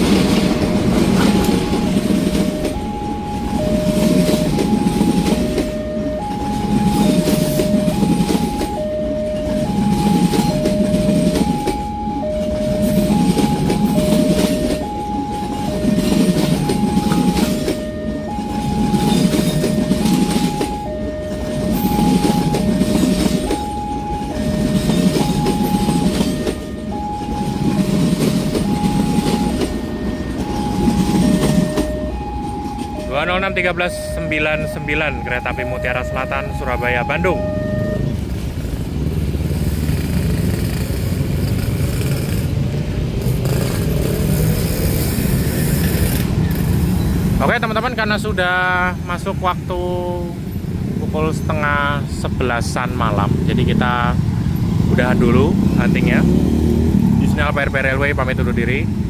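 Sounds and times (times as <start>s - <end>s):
two-tone crossing alarm: 0.0s - 39.4s, 40.1s - 59.0s
train wheels rumbling: 0.0s - 59.0s.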